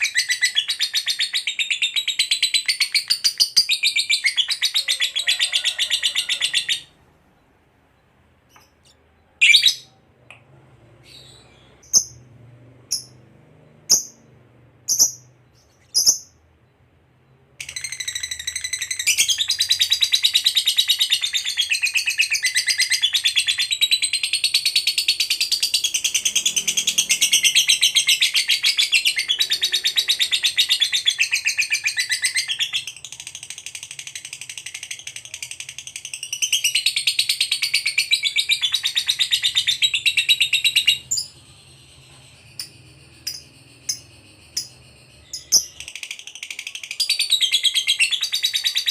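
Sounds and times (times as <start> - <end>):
lovebird chirping: 0.0 - 48.9.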